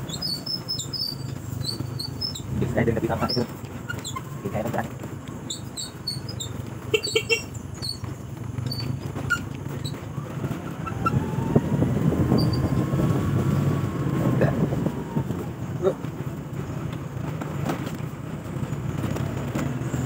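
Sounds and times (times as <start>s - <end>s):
bike rattling over bumps: 0.0s - 20.0s.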